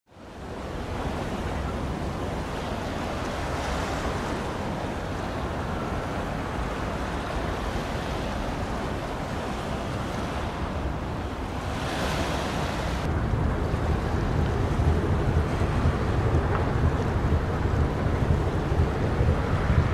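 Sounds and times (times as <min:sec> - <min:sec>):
sea waves washing at shore: 0:00.1 - 0:19.9
wind buffeting microphone: 0:00.2 - 0:19.9.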